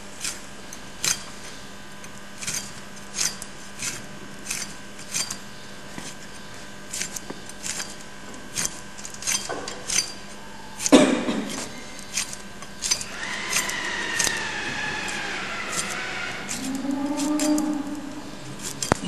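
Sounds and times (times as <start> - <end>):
tool scraping hoof: 0.0 - 19.0.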